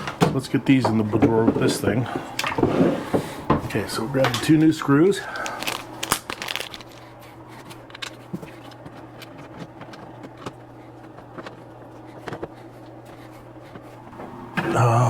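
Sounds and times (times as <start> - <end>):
steady low hum: 1.9 - 15.0.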